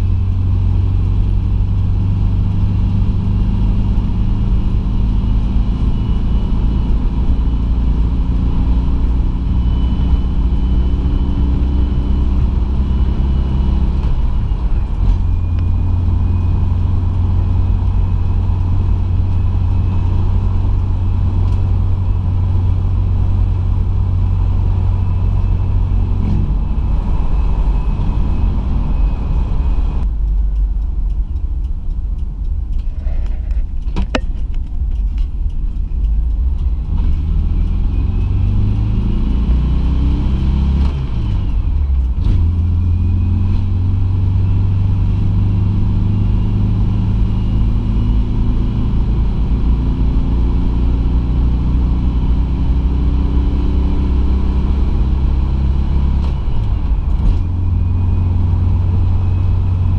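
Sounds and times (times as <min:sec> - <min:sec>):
road noise: 0:00.0 - 0:59.9
van engine running: 0:00.0 - 0:59.9.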